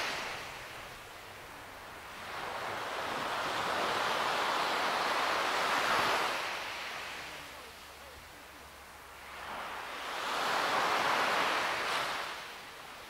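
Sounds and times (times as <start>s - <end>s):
ocean waves on a shore: 0.0s - 13.0s.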